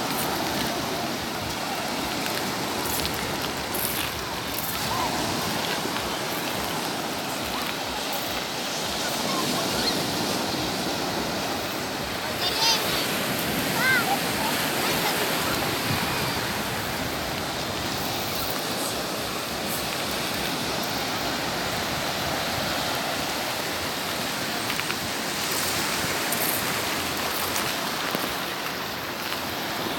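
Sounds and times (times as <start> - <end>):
sea surf washing on shore: 0.0 - 29.9.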